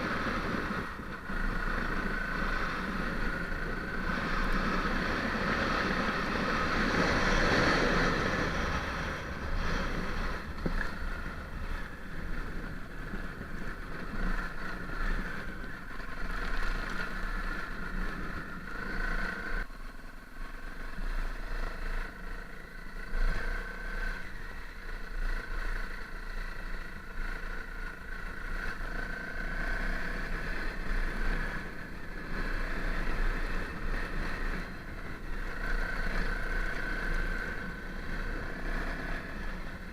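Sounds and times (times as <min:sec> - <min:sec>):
dirt bike engine revving: 0:00.0 - 0:19.6, 0:23.0 - 0:39.9.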